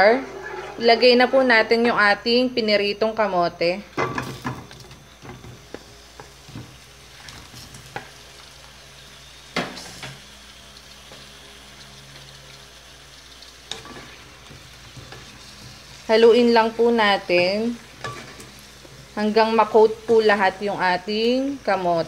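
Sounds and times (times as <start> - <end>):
food sizzling in oil: 3.9 - 22.0.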